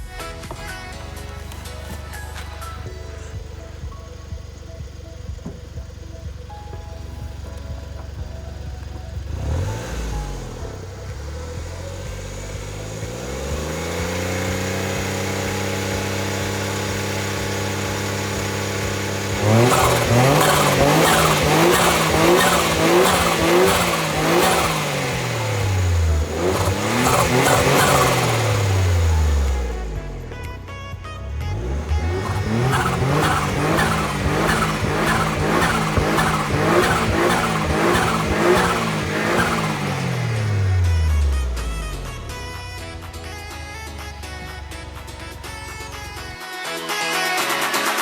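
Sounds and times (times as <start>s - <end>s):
engine revving: 0.0s - 46.4s.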